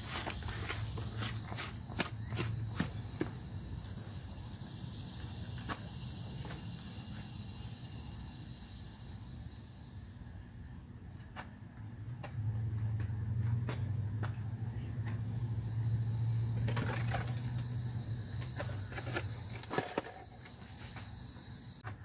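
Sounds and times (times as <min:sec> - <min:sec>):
high insect-like buzz: 0:00.0 - 0:21.9.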